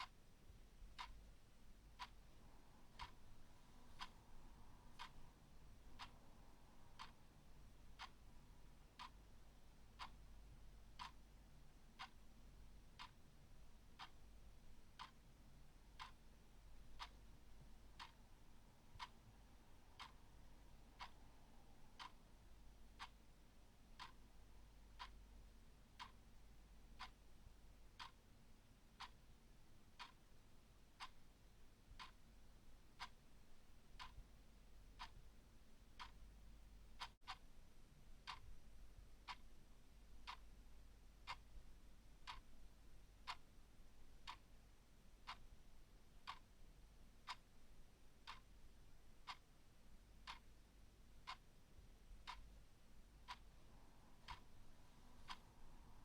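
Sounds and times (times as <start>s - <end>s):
clock ticking: 0.0s - 37.5s, 38.2s - 38.6s, 39.2s - 39.5s, 40.2s - 45.6s, 46.2s - 46.6s, 47.2s - 47.6s, 48.2s - 48.6s, 49.2s - 49.6s, 50.2s - 50.6s, 51.2s - 51.6s, 52.2s - 56.0s
faint low hum: 0.0s - 56.0s.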